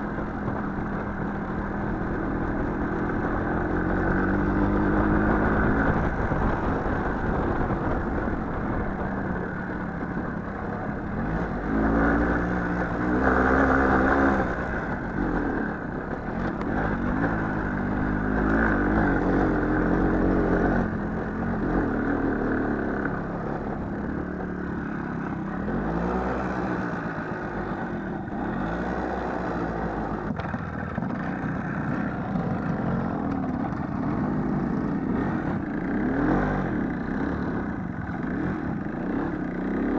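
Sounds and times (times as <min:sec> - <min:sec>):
small motorcycle engine revving: 0:00.0 - 0:39.9.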